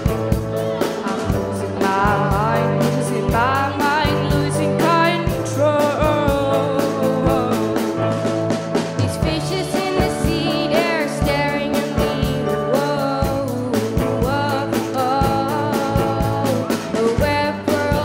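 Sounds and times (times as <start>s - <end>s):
live pop-rock band: 0.0s - 18.0s
steady drum beat: 0.0s - 18.0s
young women singing: 0.6s - 8.0s, 9.0s - 18.0s.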